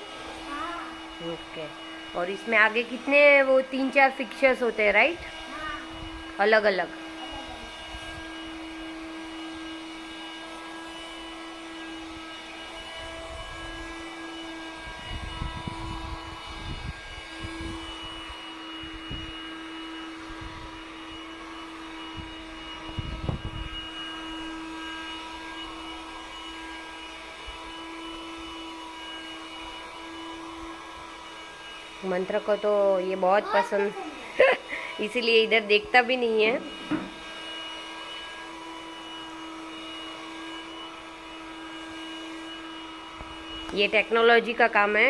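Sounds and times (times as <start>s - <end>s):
handheld vacuum cleaner whine: 0.0s - 45.0s.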